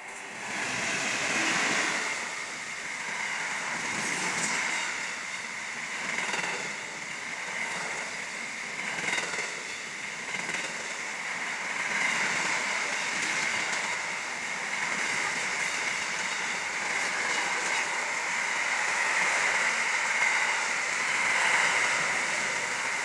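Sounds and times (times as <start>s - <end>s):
freight train wheels on rail: 0.0s - 23.0s.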